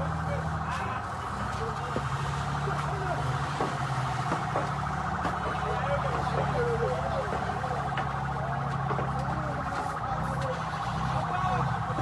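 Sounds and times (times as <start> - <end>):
engine running: 0.0 - 12.0
warbling siren-like alarm tone: 0.0 - 12.0.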